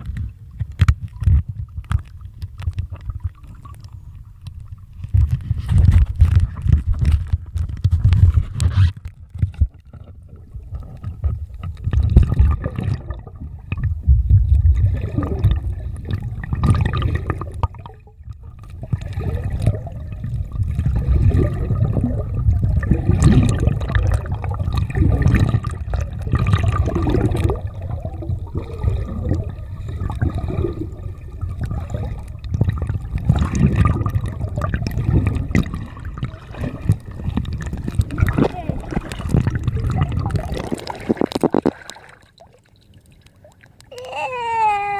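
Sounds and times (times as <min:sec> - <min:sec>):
water sloshing against hull: 0:00.0 - 0:44.9.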